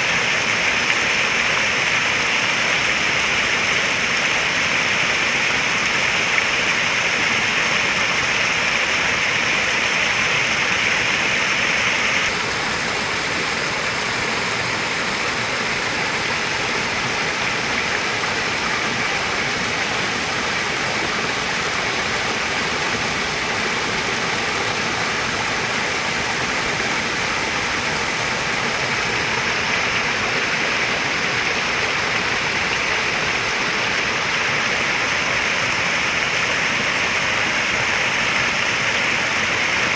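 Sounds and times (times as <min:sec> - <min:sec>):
flowing water splashing: 0:00.0 - 0:39.9.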